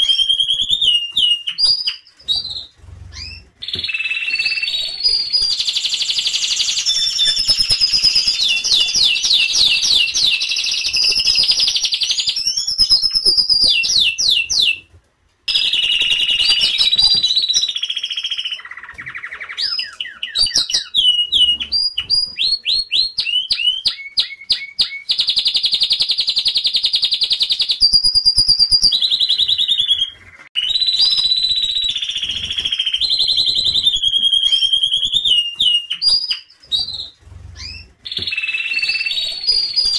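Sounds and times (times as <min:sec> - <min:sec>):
canary singing trills and chirps: 0:00.0 - 0:14.9, 0:15.5 - 0:39.9.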